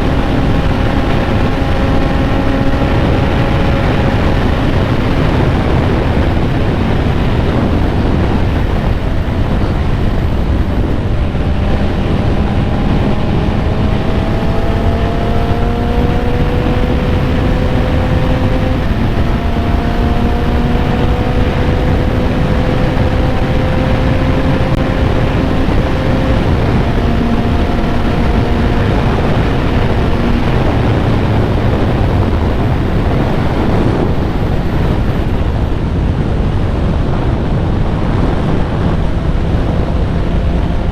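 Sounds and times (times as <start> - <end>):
faint motorcycle engine: 0.0 - 40.9
wind noise on microphone: 0.0 - 40.9.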